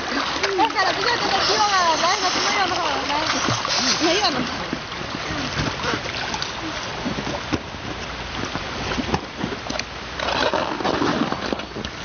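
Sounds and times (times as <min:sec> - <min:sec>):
pool water sloshing and splashing: 0:00.0 - 0:12.0.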